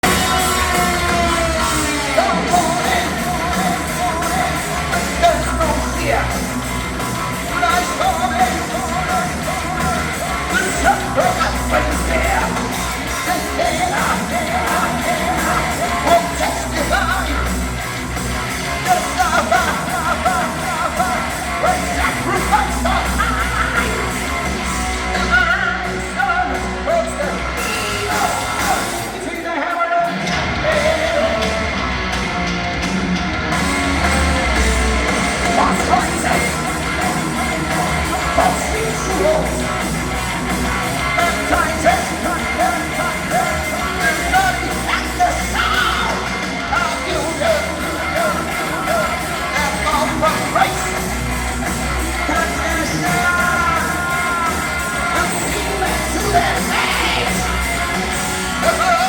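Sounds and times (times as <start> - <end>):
person singing: 0.0 - 17.6, 18.8 - 31.8, 34.0 - 51.3, 52.0 - 59.0
heavy metal band playing live: 0.0 - 59.0.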